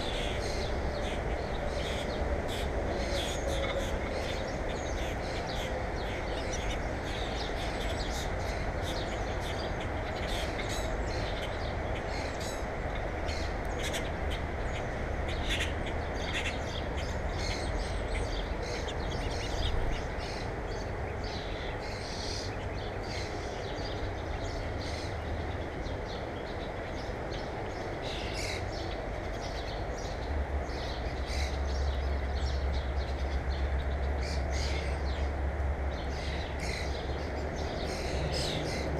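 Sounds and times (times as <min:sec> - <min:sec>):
steady background noise: 0:00.0 - 0:38.9.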